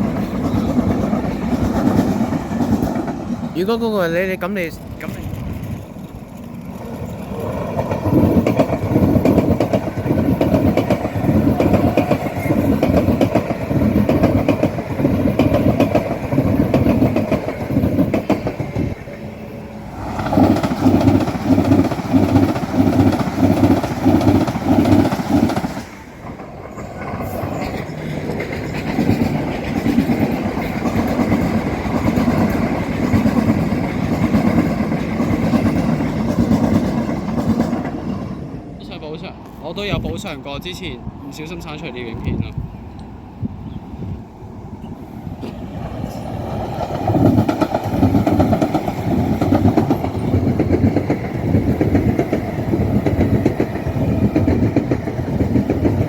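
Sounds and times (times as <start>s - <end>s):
train wheels clattering over rails: 0.0s - 19.3s, 19.9s - 38.6s, 44.8s - 56.0s.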